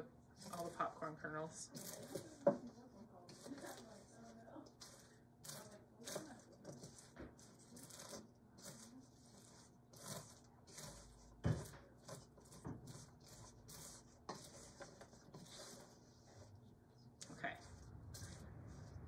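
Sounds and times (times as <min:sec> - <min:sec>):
spoon scraping metal bowl: 0:00.3 - 0:19.0
popcorn rustling and crunching: 0:01.6 - 0:02.4, 0:03.3 - 0:16.6, 0:17.2 - 0:19.0.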